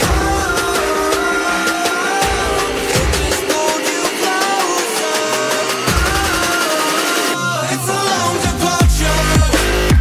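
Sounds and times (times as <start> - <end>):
bass line: 0.0 - 10.0
synth melody: 0.0 - 10.0.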